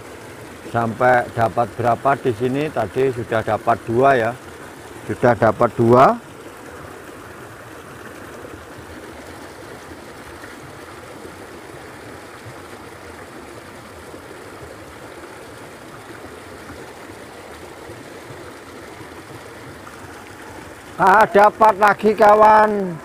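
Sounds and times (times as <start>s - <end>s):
stream water running: 0.0s - 23.0s.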